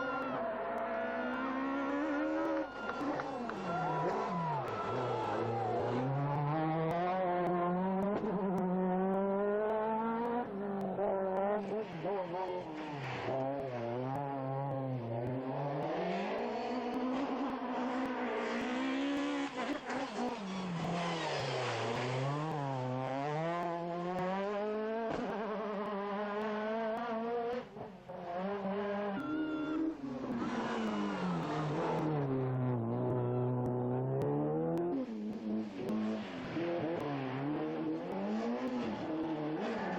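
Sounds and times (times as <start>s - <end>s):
rally car engines revving hard: 0.0s - 39.9s.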